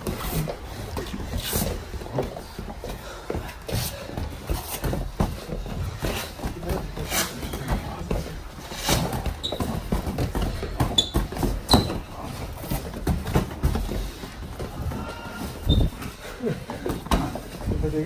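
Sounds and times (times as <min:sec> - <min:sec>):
shoes squeaking on floor: 0:00.0 - 0:17.6.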